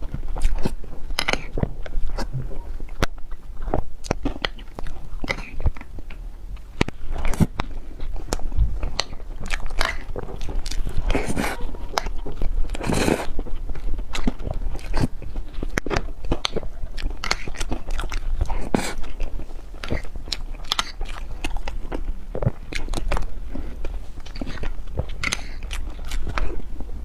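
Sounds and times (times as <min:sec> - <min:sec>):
crunchy food crunching: 0:00.0 - 0:27.0
wet chewing: 0:00.0 - 0:27.0.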